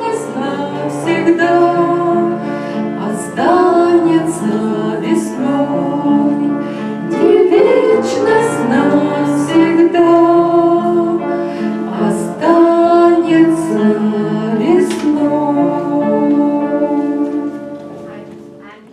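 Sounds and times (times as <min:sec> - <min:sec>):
instrumental accompaniment: 0:00.0 - 0:18.9.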